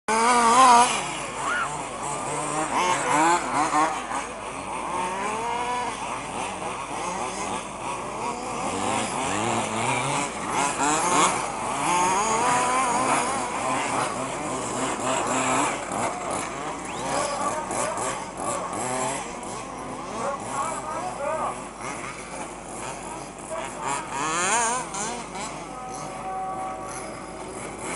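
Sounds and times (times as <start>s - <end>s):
small rc car engines buzzing: 0.1s - 27.9s.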